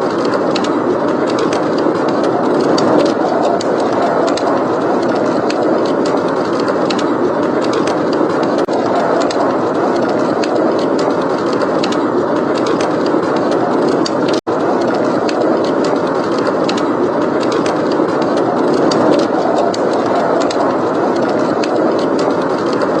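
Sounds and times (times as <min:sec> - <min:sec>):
howling blizzard wind: 0:00.0 - 0:23.0
wood fire crackling: 0:00.0 - 0:23.0.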